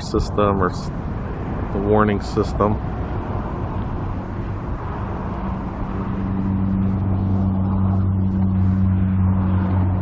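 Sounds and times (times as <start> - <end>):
engine running: 0.0 - 10.0
traffic rumble: 0.0 - 10.0.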